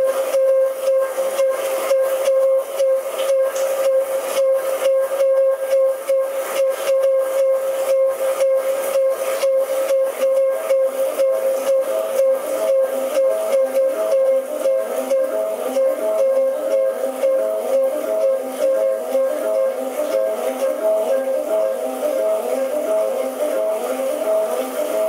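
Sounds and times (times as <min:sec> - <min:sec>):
high electronic drone tone: 0:00.0 - 0:25.0.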